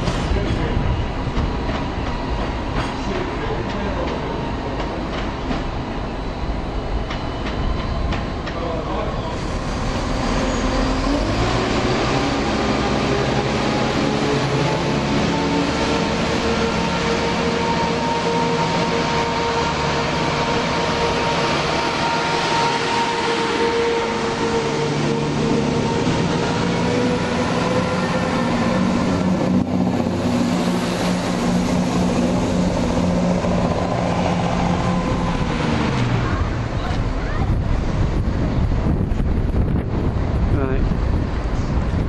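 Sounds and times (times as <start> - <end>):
diesel train droning whine: 0.0 - 42.0.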